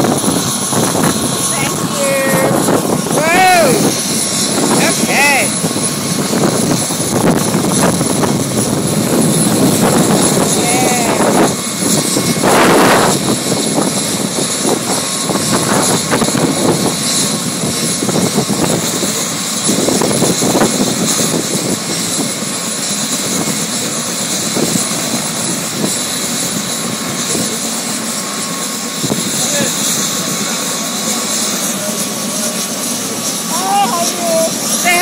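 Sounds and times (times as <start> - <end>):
helicopter engine whine: 0.0 - 35.0
helicopter rotor blades beating: 0.0 - 35.0.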